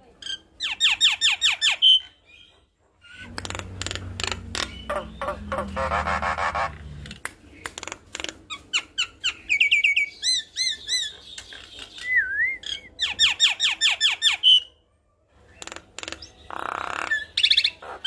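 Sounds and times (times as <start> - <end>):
bird singing: 0.2 - 7.9, 8.7 - 14.8, 15.5 - 18.0.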